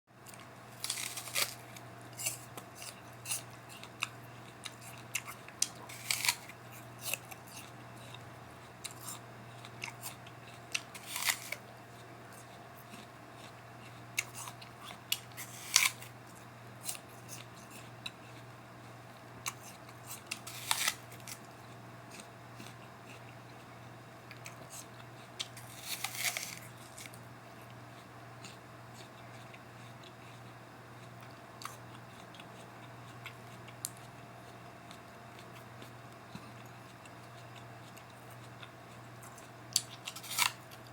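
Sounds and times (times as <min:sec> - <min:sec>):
steady low hum: 0:00.1 - 0:40.9
apple bitten with a crunch: 0:00.2 - 0:18.5, 0:19.2 - 0:40.9
chewing crunches: 0:00.2 - 0:40.9.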